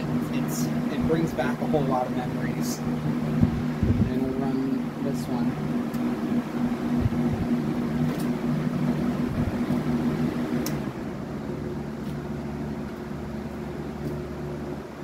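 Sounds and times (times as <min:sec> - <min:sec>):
fans humming over rushing air: 0:00.0 - 0:15.0.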